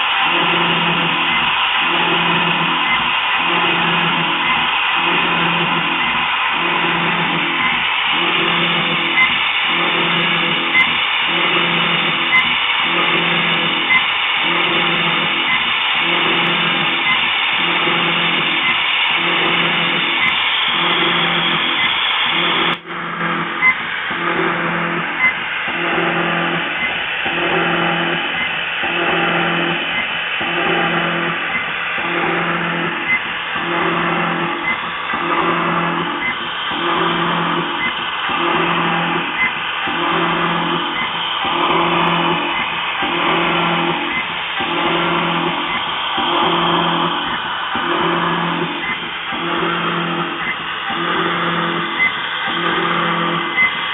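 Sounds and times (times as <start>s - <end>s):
milling machine cutting metal: 0.0s - 53.9s.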